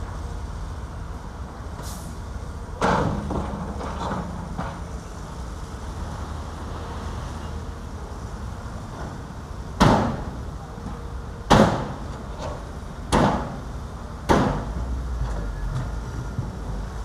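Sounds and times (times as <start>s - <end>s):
diesel engines rumbling: 0.0s - 17.0s.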